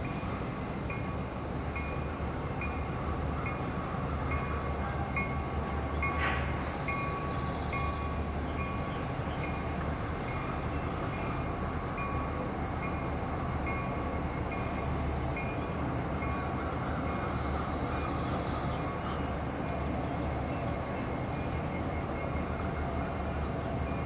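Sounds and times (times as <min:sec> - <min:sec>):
diesel locomotives rumbling: 0:00.0 - 0:24.0.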